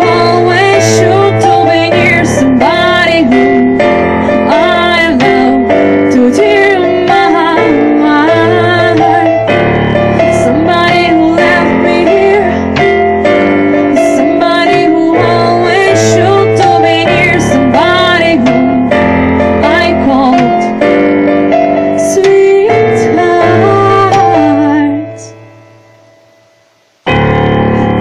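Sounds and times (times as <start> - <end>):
woman singing: 0.0 - 21.0, 21.8 - 25.4
bass: 0.0 - 25.4, 27.1 - 28.0
keyboard chords: 0.0 - 28.0.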